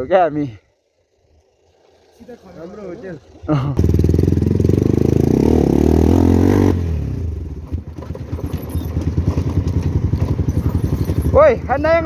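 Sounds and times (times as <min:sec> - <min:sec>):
motorcycle engine running: 0:00.8 - 0:12.0.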